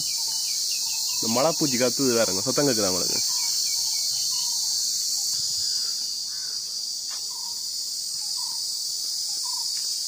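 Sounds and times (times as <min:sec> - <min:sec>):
cicada buzzing: 0:00.0 - 0:10.0.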